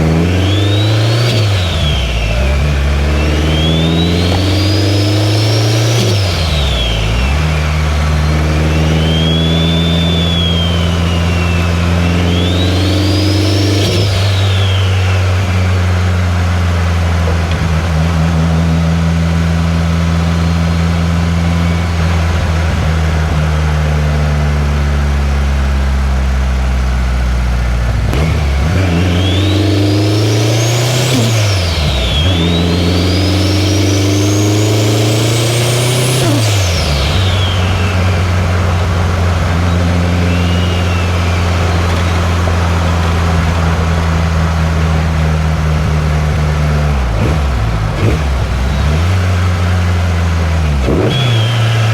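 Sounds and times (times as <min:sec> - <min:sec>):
car engine accelerating: 0:00.0 - 0:51.9
turbo whine: 0:00.0 - 0:51.9.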